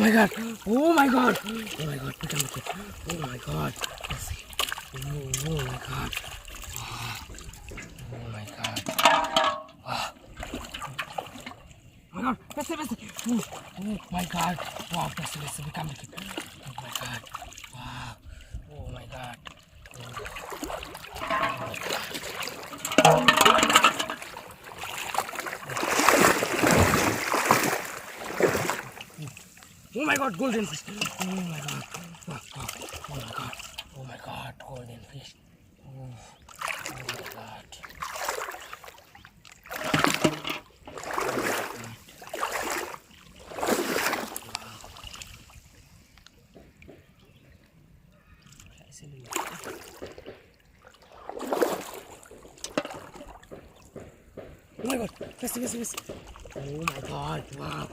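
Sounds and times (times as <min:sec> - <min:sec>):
water splashing and sloshing: 0:00.0 - 0:57.9.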